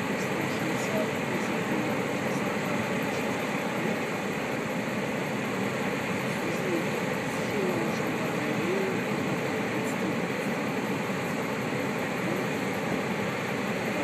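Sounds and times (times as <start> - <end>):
cooling tower fans rushing: 0.0 - 14.0.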